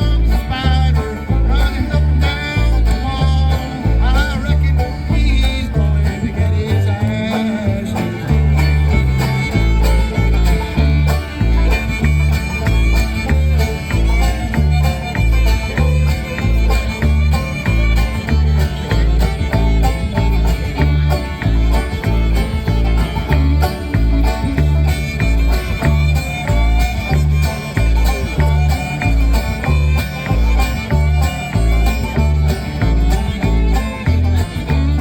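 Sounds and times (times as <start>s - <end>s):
fiddle lead: 0.0s - 35.0s
pulsing bass notes: 0.0s - 35.0s
strummed and picked strings: 0.0s - 35.0s.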